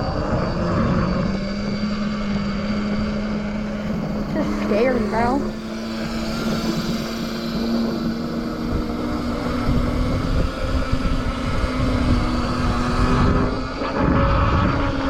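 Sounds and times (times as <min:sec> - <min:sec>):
droning motor hum: 0:00.0 - 0:15.0
low rumbling: 0:00.0 - 0:15.0
wind buffeting microphone: 0:00.0 - 0:15.0.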